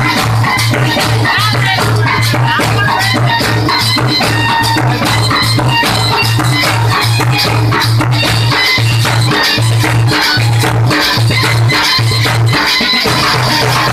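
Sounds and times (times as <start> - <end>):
drum band playing fast beat: 0.0 - 13.9.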